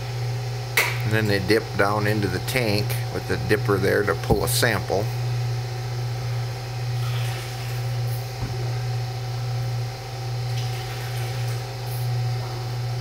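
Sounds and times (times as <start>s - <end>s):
electric motor hum: 0.0s - 13.0s.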